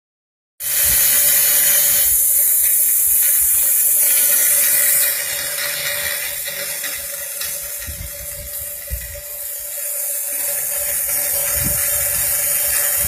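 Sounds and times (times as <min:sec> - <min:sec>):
router spindle cutting plastic: 0:00.6 - 0:13.0.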